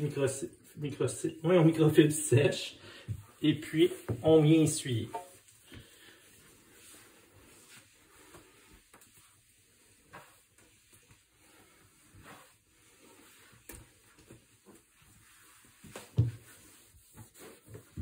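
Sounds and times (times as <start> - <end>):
cloth wiping countertop: 0.0 - 18.0.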